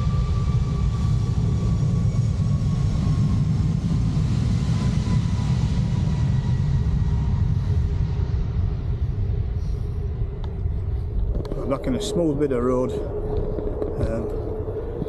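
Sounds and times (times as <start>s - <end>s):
passing jet airliner whine: 0.0s - 15.0s
rumble of wind and riding noise: 0.0s - 15.0s.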